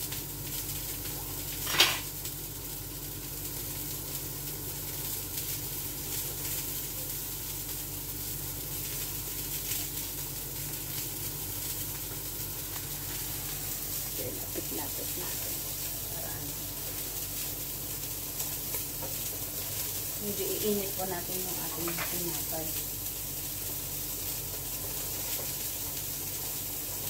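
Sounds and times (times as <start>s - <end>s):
low steady hum: 0.0s - 27.0s
patties sizzling in a frying pan: 0.0s - 27.0s.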